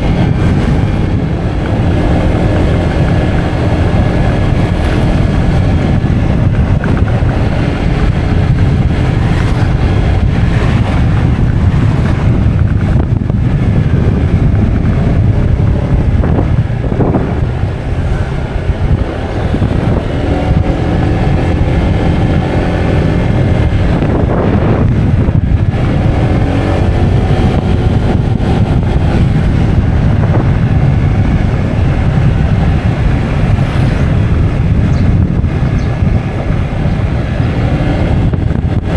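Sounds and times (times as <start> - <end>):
vehicle engine changing gear: 0.0 - 38.9
wind noise on microphone: 0.0 - 38.9.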